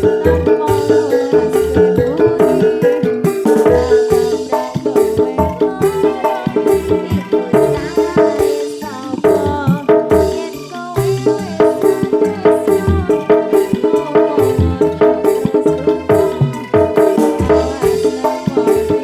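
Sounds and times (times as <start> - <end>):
live band playing instrumental: 0.0 - 19.0
quick percussion strikes: 0.0 - 19.0.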